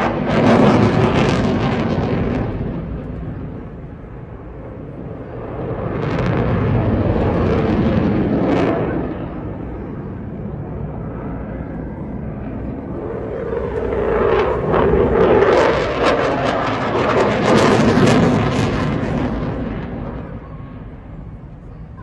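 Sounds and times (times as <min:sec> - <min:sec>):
jet aircraft roar: 0:00.0 - 0:22.0.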